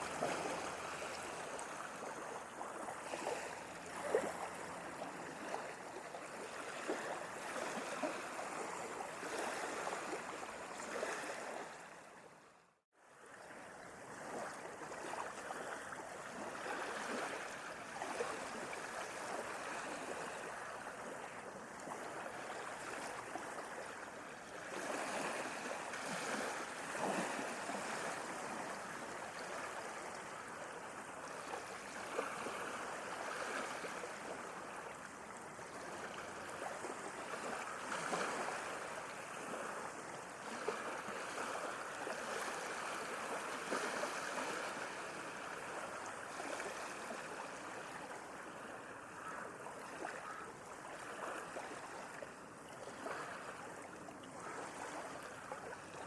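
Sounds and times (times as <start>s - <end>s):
sea waves breaking: 0.0s - 12.4s, 13.5s - 56.0s.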